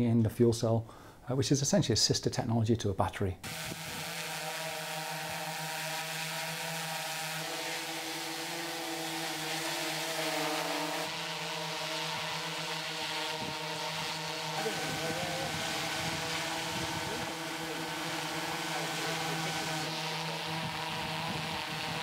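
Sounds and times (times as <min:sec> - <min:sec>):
quadcopter hovering: 0:03.4 - 0:22.0.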